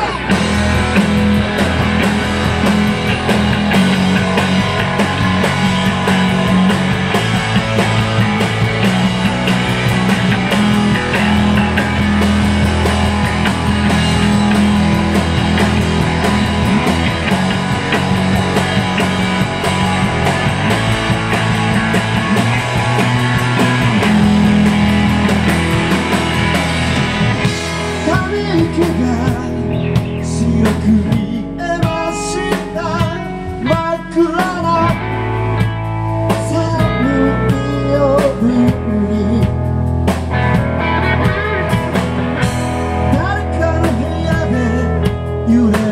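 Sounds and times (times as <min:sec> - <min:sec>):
rock band playing: 0:00.0 - 0:45.9
wavering melodic guitar lines: 0:00.0 - 0:45.9.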